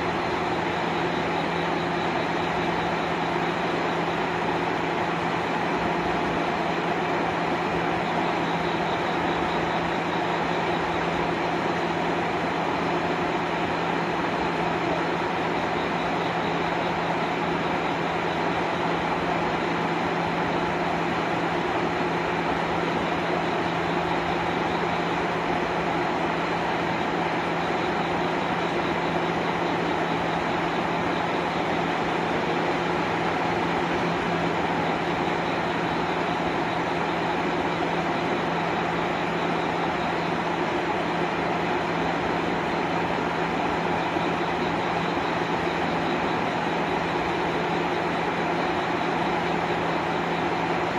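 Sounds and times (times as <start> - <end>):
diesel railcar engine idling: 0.0 - 50.9.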